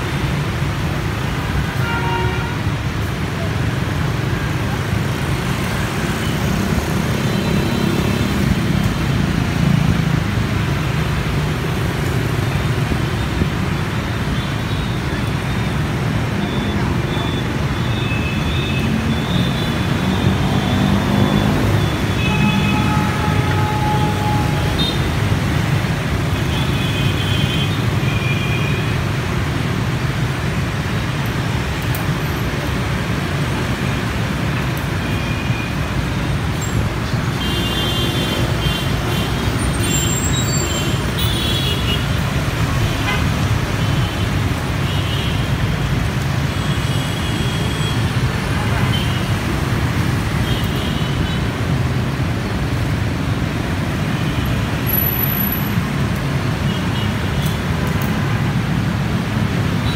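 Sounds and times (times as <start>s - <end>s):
dense street traffic rumble: 0.0s - 59.9s.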